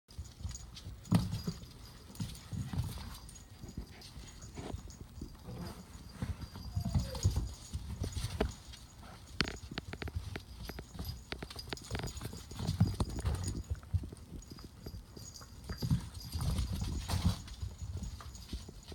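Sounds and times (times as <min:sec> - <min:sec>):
puppy paws thumping on wooden floor: 0:00.1 - 0:18.9
small collar bell jingling: 0:00.1 - 0:18.9.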